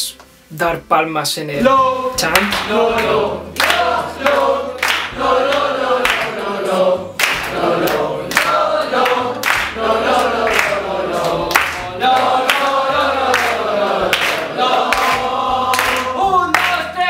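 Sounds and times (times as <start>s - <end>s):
young voices singing in chorus: 1.6s - 17.0s
hand claps: 2.3s - 17.0s.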